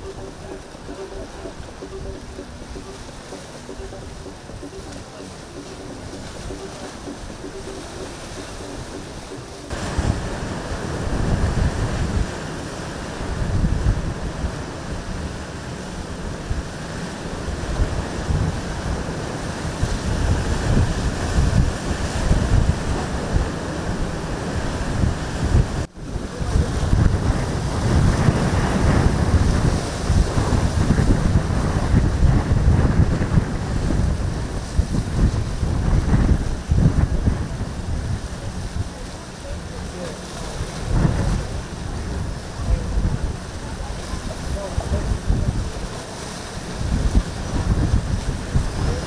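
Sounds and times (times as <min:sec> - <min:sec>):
choppy sea waves: 0:00.0 - 0:49.0
gusty wind buffeting microphone: 0:00.0 - 0:49.0.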